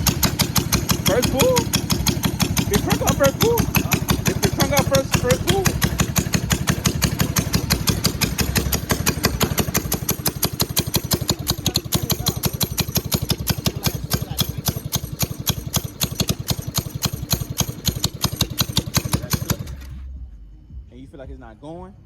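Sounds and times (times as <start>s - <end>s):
mini bike engine idling: 0.0s - 20.1s.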